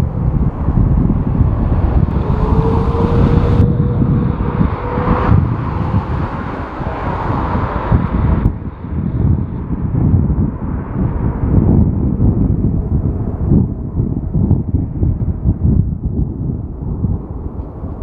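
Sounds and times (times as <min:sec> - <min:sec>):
jet engine running: 0:00.0 - 0:14.8
steady whine: 0:00.0 - 0:18.0
wind buffeting microphone: 0:00.0 - 0:18.0.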